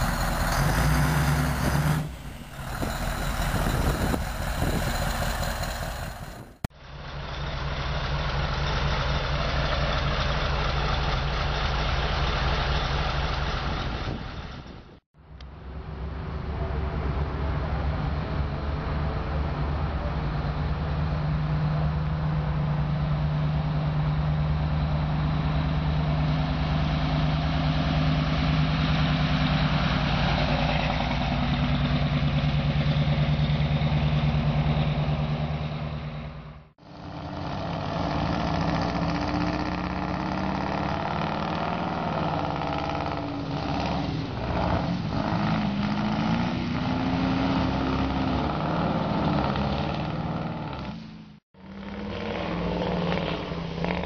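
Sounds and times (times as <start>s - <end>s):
diesel truck engine revving: 0.0s - 14.3s, 23.6s - 54.0s.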